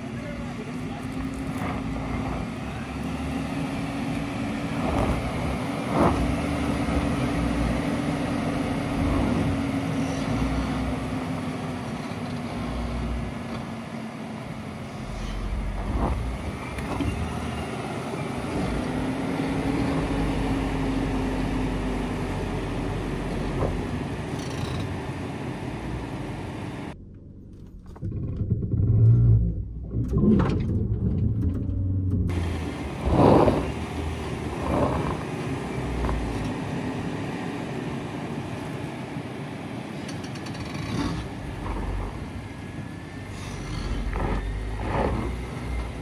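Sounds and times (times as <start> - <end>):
off-road vehicle hum: 0.0 - 46.0.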